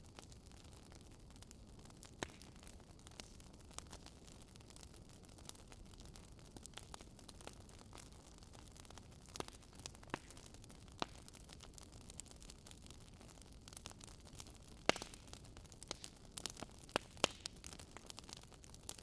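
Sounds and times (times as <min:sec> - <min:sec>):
wood crackling and popping: 0:00.0 - 0:19.0.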